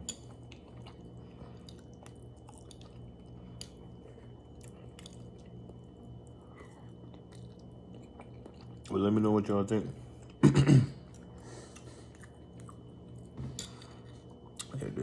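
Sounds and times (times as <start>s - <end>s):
person chewing food: 0.0s - 8.9s, 11.0s - 14.8s
steady low hum: 0.0s - 15.0s.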